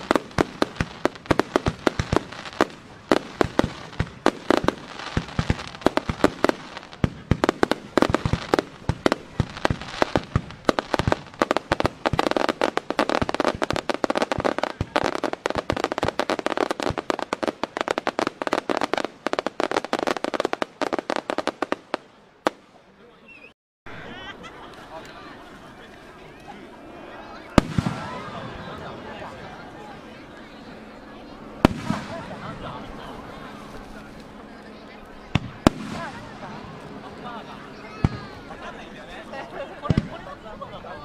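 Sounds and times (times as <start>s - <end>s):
fireworks bangs and crackling: 0.0s - 22.8s, 27.5s - 40.7s.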